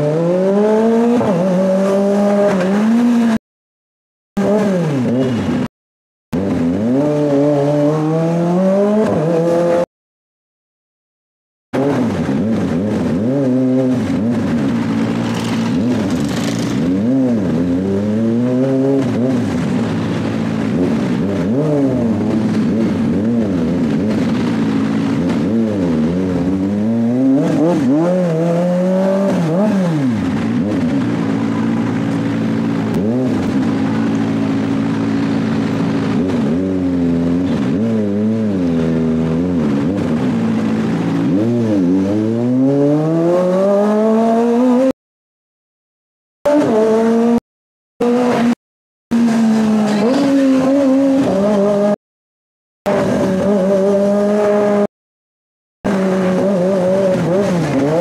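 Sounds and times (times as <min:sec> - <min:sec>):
motorcycle engine revving: 0:00.0 - 0:03.4, 0:04.4 - 0:05.7, 0:06.3 - 0:09.9, 0:11.8 - 0:45.0, 0:46.5 - 0:47.4, 0:48.0 - 0:52.0, 0:52.9 - 0:54.9, 0:55.9 - 0:58.0.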